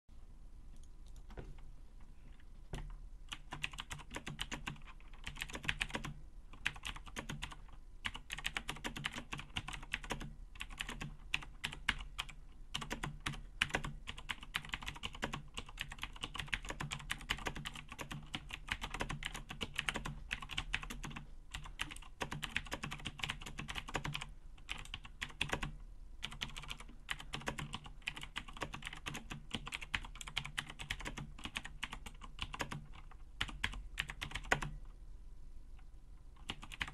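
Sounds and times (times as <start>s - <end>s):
mechanical keyboard typing: 2.8s - 34.8s, 36.4s - 36.9s.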